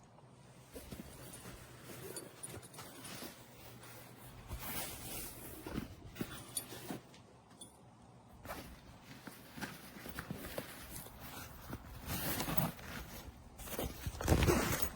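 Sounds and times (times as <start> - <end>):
backpack fabric rustling: 0.4 - 7.3, 8.3 - 14.9.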